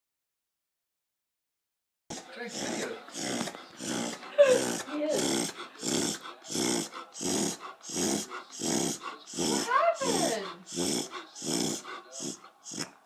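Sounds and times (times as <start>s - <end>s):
dog reverse sneezing snorts: 2.1s - 13.0s.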